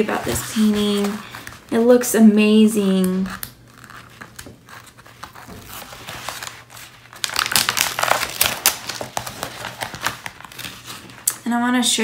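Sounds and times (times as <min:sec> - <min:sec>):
plastic film crinkling: 0:00.0 - 0:11.5.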